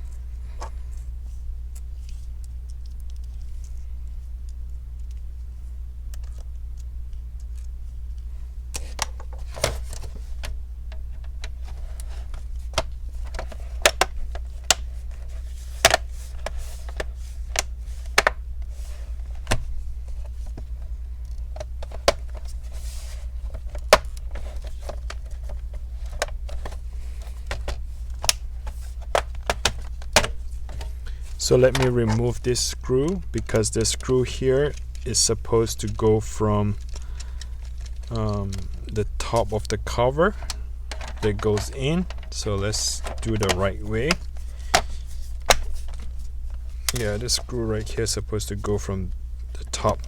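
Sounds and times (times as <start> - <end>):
steady low hum: 0.0 - 50.0
screws and plastic parts clicking: 6.1 - 48.2.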